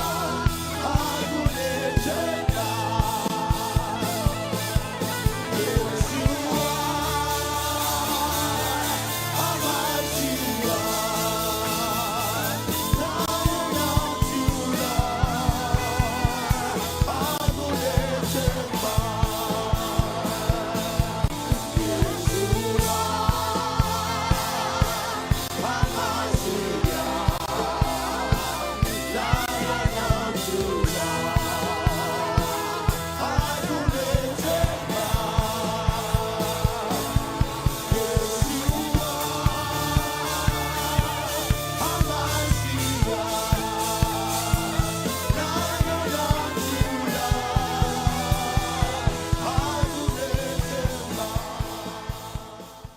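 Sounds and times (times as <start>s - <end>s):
steady drum beat: 0.0s - 52.9s
sustained bass: 0.0s - 52.9s.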